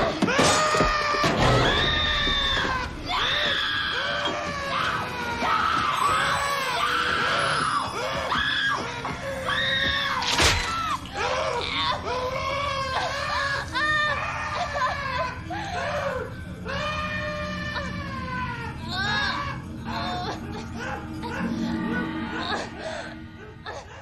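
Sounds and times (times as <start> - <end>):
woman screaming in terror: 0.3 - 23.9.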